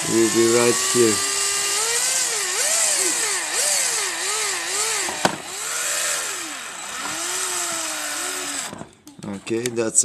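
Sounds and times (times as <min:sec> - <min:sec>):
small high-speed drill drilling: 0:00.0 - 0:08.9.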